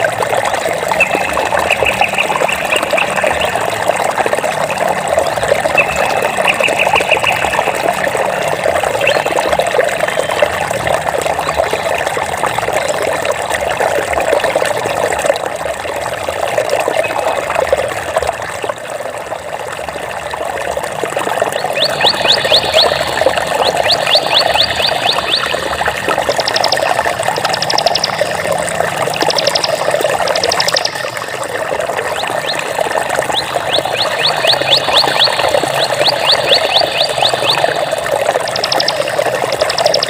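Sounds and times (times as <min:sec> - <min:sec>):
water babbling over stones: 0:00.0 - 0:40.0.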